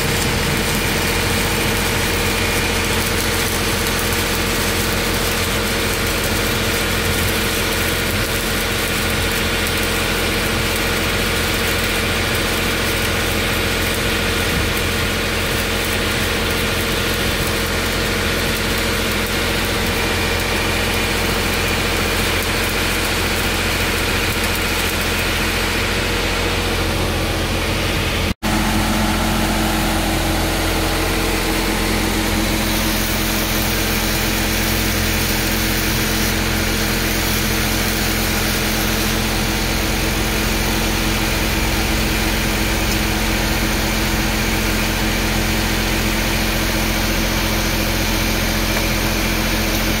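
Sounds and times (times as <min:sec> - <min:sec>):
engine drone: 0:00.0 - 0:50.0
welding arc crackling and hissing: 0:00.0 - 0:50.0.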